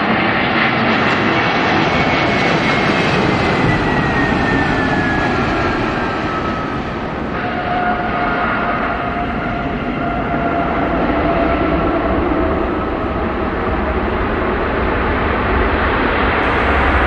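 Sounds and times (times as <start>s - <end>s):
jet engine whine: 0.0s - 17.0s
jet engines roaring: 0.0s - 17.0s.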